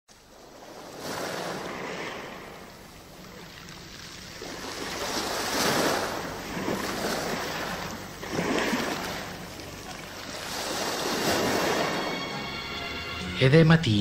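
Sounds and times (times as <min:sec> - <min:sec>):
sea waves washing onto shore: 0:00.1 - 0:12.4.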